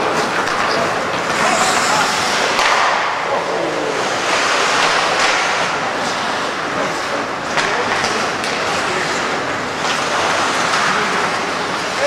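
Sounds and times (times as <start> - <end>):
murmur of voices: 0.0 - 12.0
skates gliding on ice: 0.0 - 12.0.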